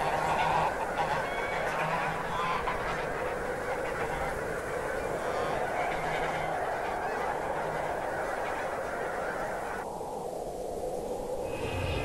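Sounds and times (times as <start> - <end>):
geese honking: 0.0 - 9.8.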